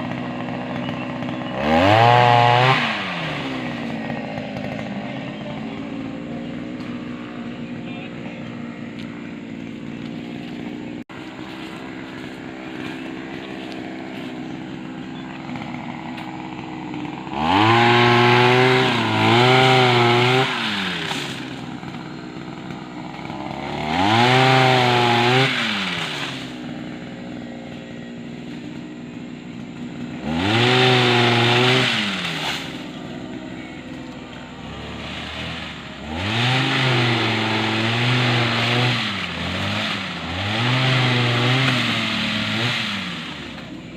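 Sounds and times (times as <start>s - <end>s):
pole saw engine idling and revving: 0.0s - 43.9s.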